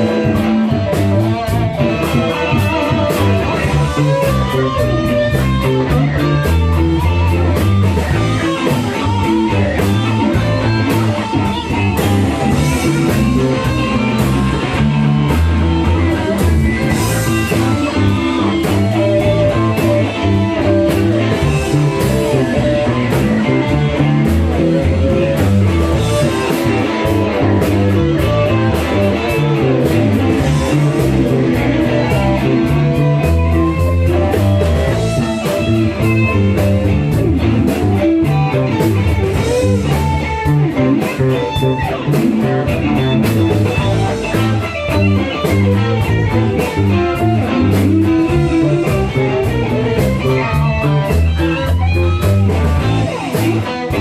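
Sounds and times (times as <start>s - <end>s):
rock music: 0.0s - 54.0s.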